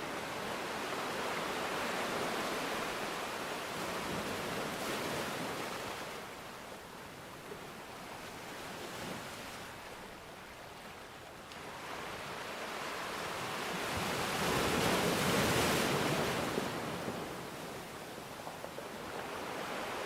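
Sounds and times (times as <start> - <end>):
ocean waves washing ashore: 0.0 - 20.0.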